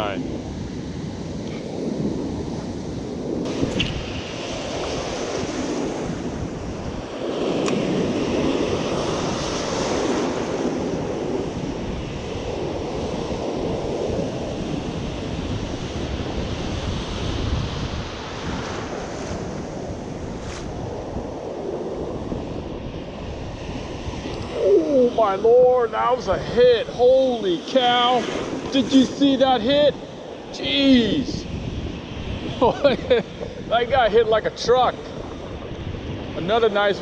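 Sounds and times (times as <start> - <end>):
ocean surf breaking on beach: 0.0 - 37.0
wind on microphone: 0.0 - 37.0.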